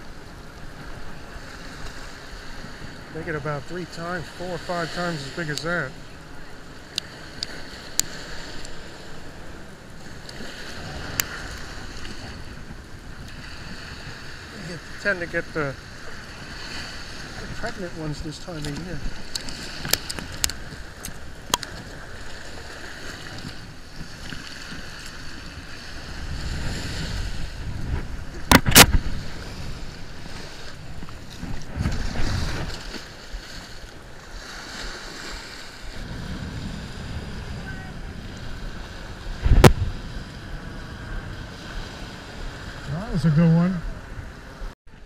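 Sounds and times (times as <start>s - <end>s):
small surf breaking on sand: 0.9s - 43.8s.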